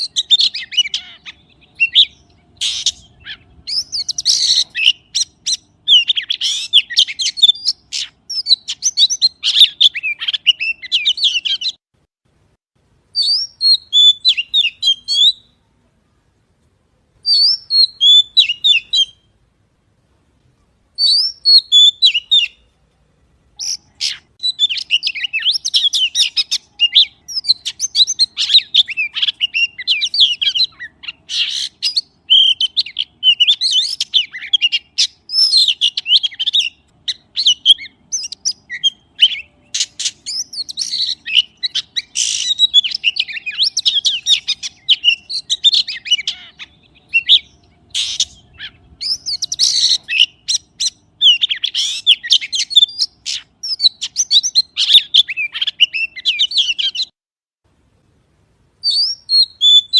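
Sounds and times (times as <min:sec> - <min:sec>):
magpie singing: 0:00.0 - 0:11.8, 0:13.2 - 0:15.6, 0:17.2 - 0:19.3, 0:21.0 - 0:22.7, 0:23.6 - 0:57.1, 0:58.8 - 0:59.9.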